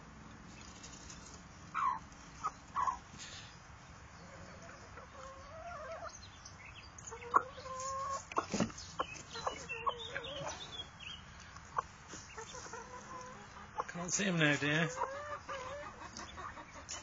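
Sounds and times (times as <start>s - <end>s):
chickens clucking: 0.2s - 17.0s.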